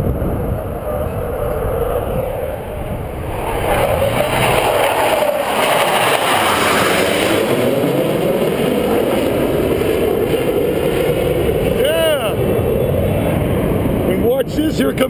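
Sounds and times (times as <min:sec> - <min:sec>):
jet engines passing overhead: 0:00.0 - 0:15.0.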